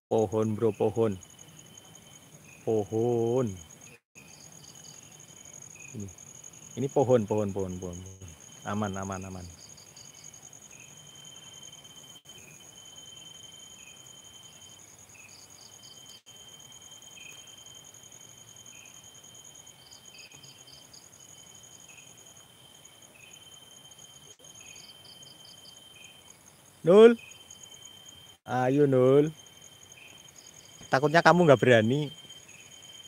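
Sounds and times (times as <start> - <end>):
night insects trilling: 0.1 - 33.0.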